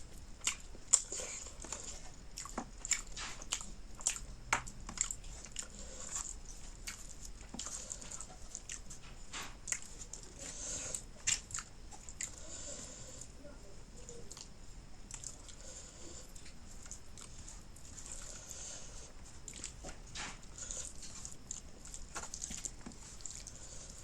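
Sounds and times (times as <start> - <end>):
person chewing with mouth clicks: 0.1 - 13.4, 14.0 - 24.0.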